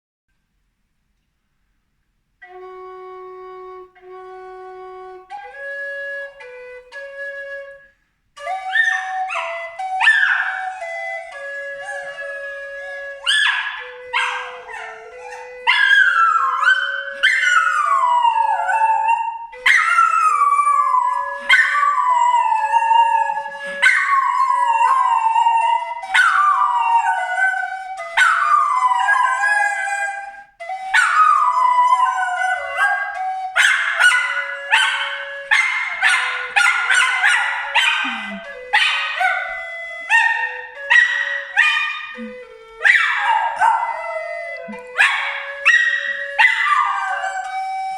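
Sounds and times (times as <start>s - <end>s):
dog howling and yipping: 8.6s - 47.9s.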